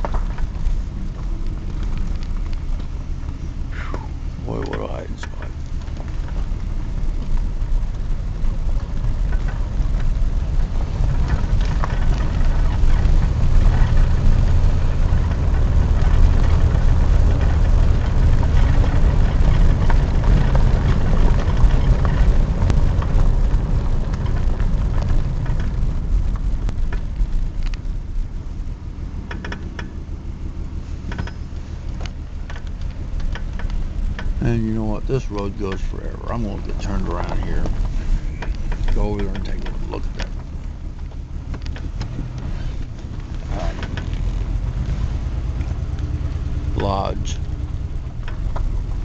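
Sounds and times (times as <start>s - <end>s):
car engine and road rumble: 0.0s - 49.0s
light rattles and clicks: 0.0s - 49.0s.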